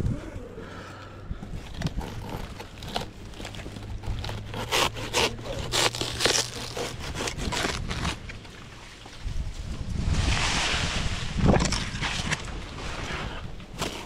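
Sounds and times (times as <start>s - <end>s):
dry palm fronds scraping and tearing: 1.5s - 14.0s.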